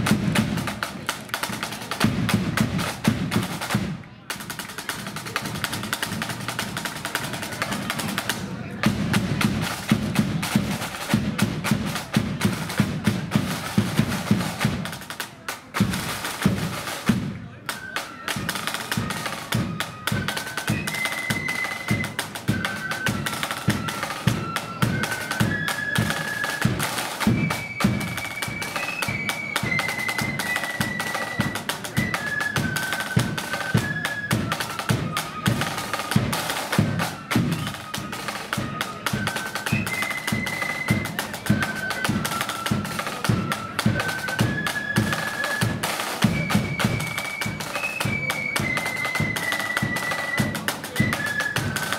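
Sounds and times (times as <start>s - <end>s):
flutes playing a tune: 0.0s - 51.9s.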